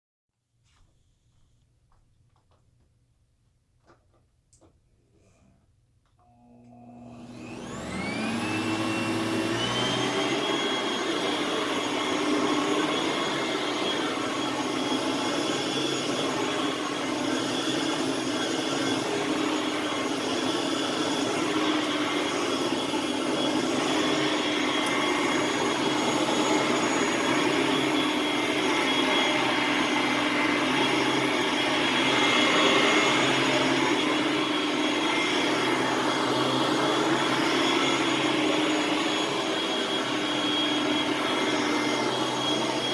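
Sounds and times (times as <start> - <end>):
upright vacuum cleaner running: 6.2 - 42.9.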